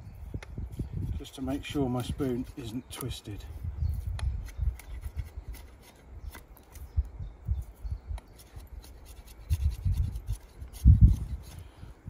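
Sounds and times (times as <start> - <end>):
knife shaving wood: 0.7 - 7.0, 7.6 - 11.8.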